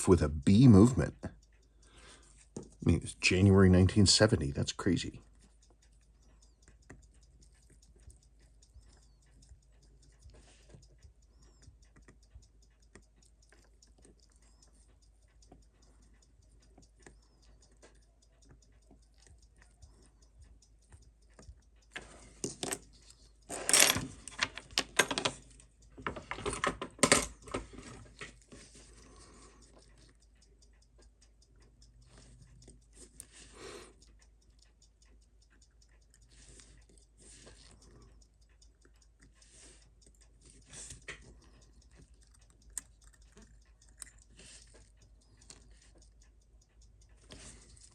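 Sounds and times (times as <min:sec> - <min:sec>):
fast clockwork ticking: 0:00.0 - 0:47.9.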